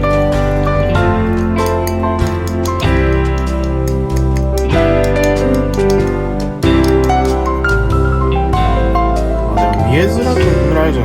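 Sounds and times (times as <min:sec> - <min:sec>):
sustained instrumental music: 0:00.0 - 0:11.0.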